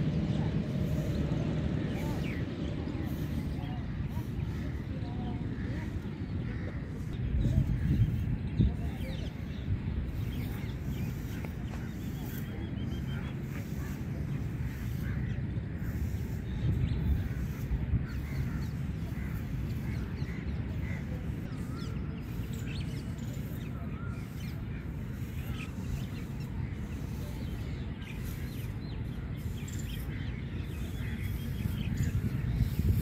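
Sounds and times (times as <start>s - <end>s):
birds chirping: 0.0s - 33.0s
steady low rumble: 0.0s - 33.0s.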